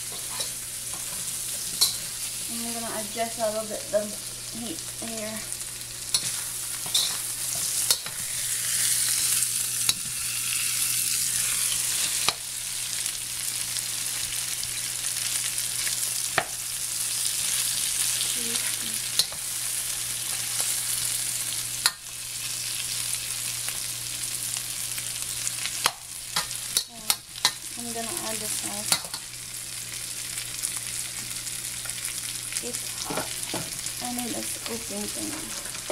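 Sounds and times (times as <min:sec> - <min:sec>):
chicken sizzling in hot oil: 0:00.0 - 0:35.9.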